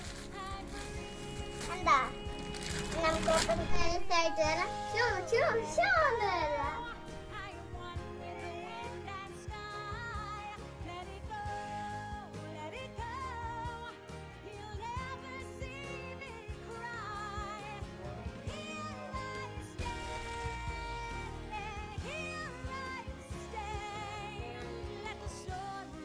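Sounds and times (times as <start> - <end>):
pop song with female vocals: 0.0 - 26.0.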